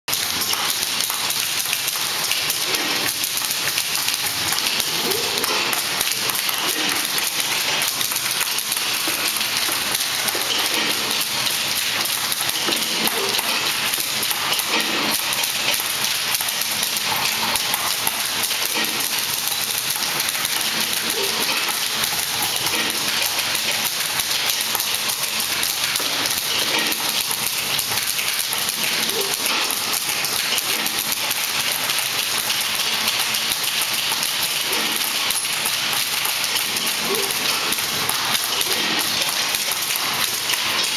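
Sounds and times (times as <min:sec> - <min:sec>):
many typewriters clattering: 0:00.1 - 0:40.9.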